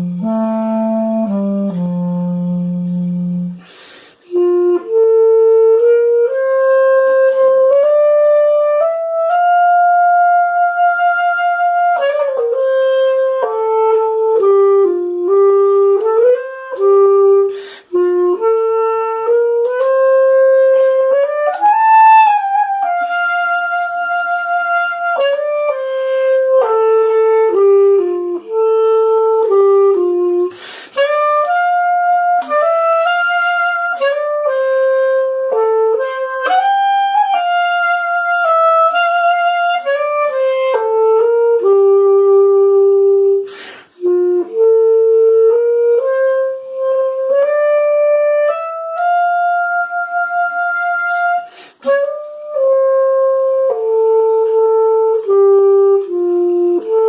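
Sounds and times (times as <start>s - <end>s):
clarinet playing slow hymn: 0.0s - 57.0s.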